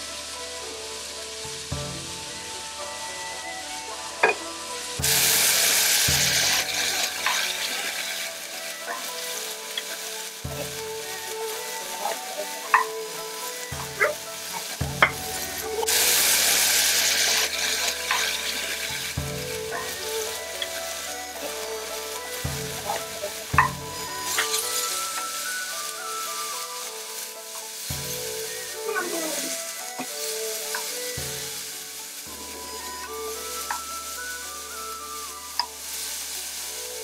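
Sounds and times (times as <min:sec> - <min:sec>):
meat sizzling in a wok: 0:00.0 - 0:37.0.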